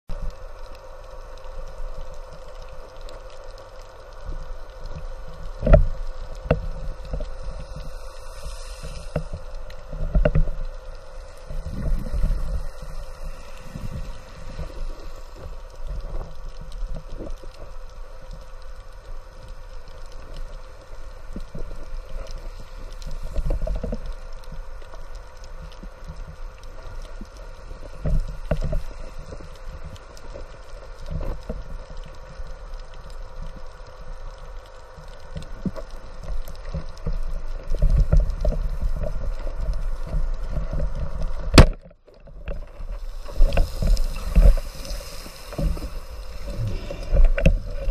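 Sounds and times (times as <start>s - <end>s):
faint steady hum: 0.1s - 47.9s
underwater rumbling: 0.1s - 47.9s.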